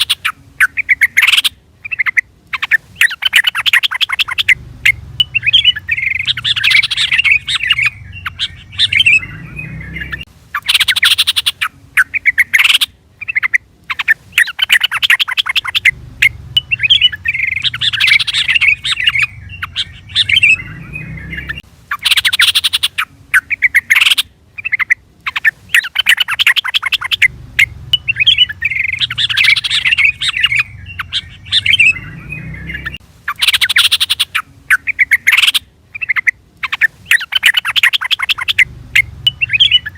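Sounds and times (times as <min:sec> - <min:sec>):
bird harsh chattering: 0:00.0 - 0:39.9
bird warbling: 0:00.0 - 0:39.9.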